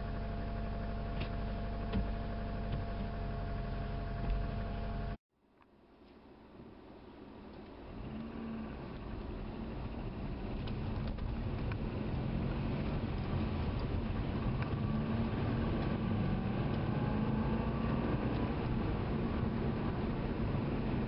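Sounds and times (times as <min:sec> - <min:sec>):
car engine and tyres on wet road: 0:00.0 - 0:21.0.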